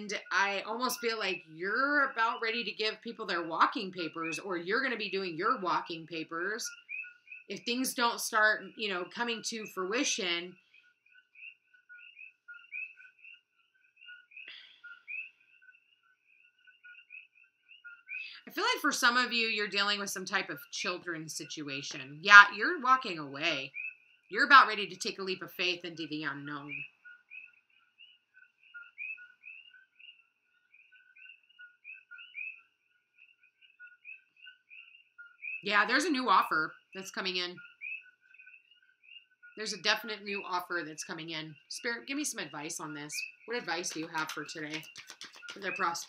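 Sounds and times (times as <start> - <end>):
frogs calling: 0.0 - 46.0.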